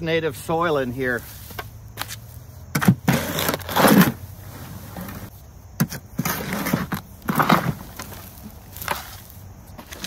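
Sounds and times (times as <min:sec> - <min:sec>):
shovel scraping gritty soil: 0:00.7 - 0:10.0.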